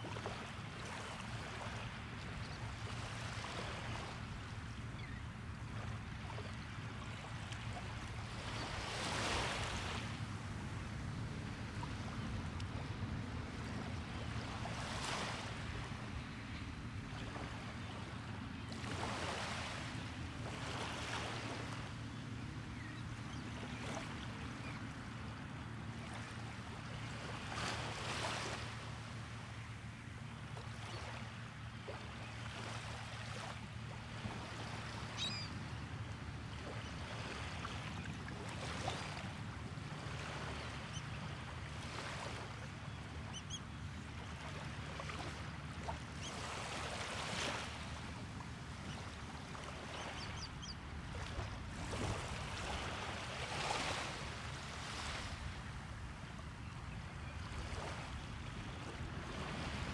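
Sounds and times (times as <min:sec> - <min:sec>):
small waves breaking: 0:00.0 - 0:59.9.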